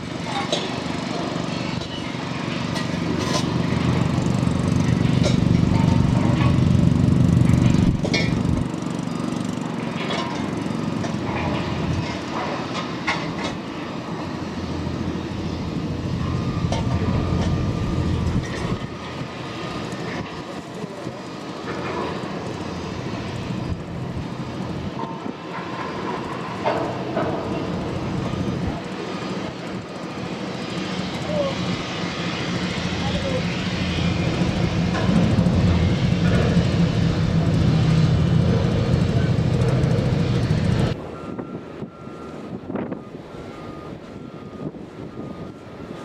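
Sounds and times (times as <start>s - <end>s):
boat engines running at speed: 0.0s - 46.0s.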